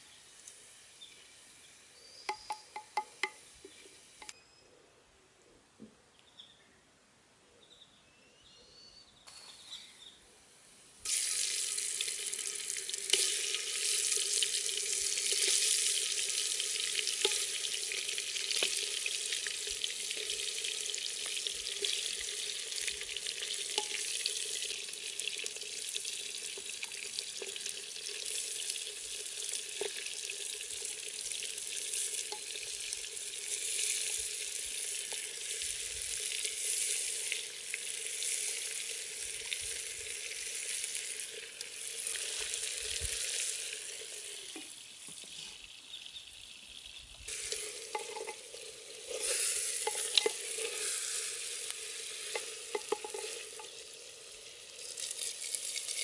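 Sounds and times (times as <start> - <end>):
food sizzling in hot oil: 0.0 - 4.3, 11.0 - 56.0.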